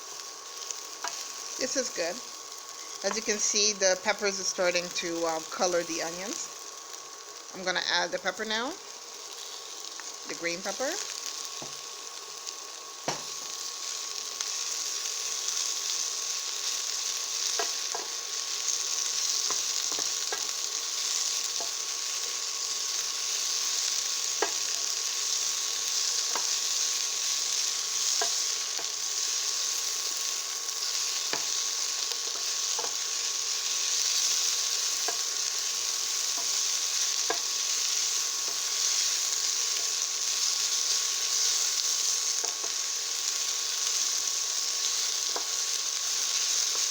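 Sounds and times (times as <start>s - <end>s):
vegetables sizzling in a pan: 0.0s - 46.9s.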